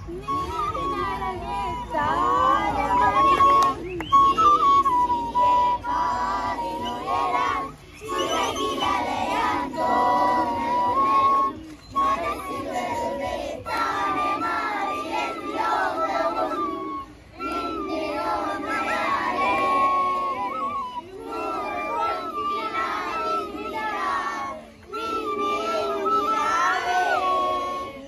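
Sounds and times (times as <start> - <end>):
children singing together: 0.0 - 3.8, 4.5 - 28.0
bamboo flute melody: 0.0 - 28.0.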